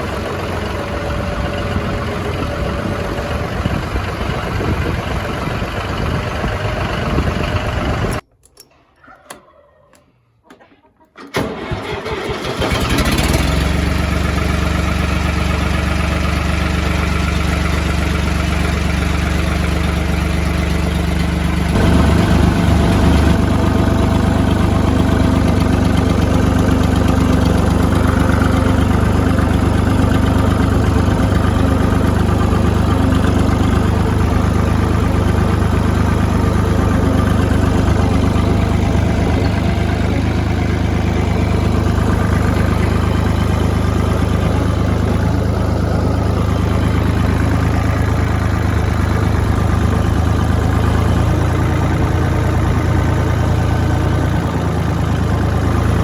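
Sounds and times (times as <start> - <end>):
engine idling: 0.0 - 8.2, 11.4 - 56.0.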